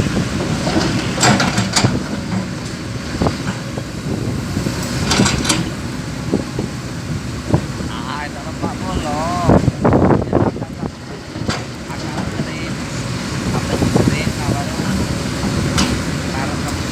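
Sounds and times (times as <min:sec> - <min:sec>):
truck engine running: 0:00.0 - 0:16.9.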